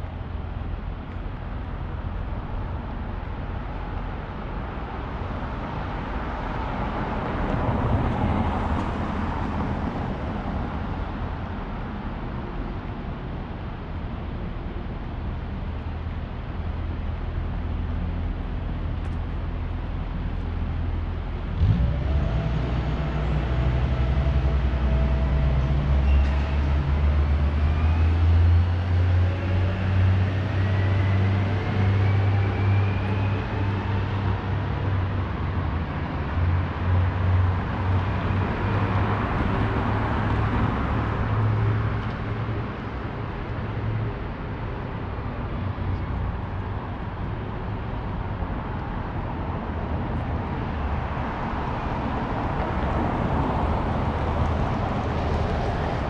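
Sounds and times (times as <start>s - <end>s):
traffic engine rumble: 0.0s - 56.0s.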